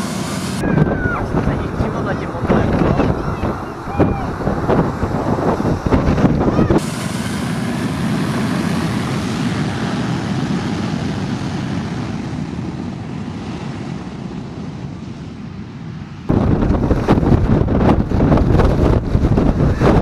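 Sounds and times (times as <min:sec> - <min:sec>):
jet engine rush: 0:00.0 - 0:20.0.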